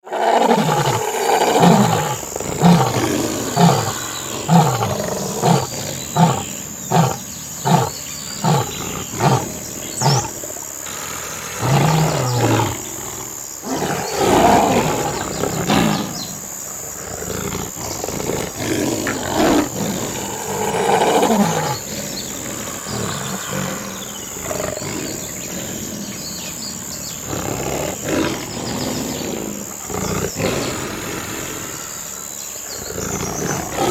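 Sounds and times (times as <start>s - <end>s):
lions grunting: 0.0s - 33.9s
lions roaring and growling: 0.0s - 33.9s.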